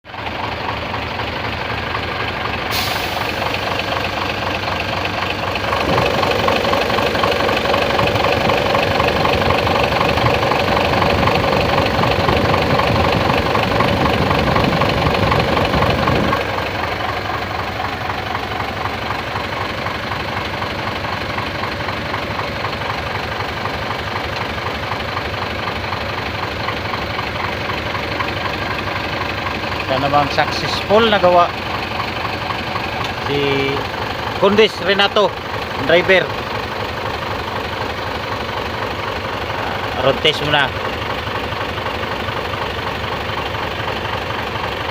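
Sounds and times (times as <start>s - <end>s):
diesel engine idling and revving: 0.1s - 44.9s.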